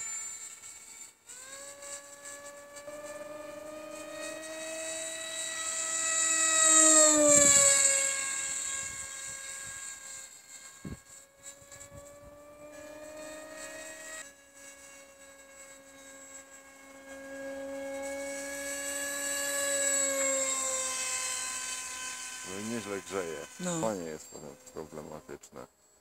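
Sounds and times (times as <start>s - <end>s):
propeller whine: 1.3s - 25.4s.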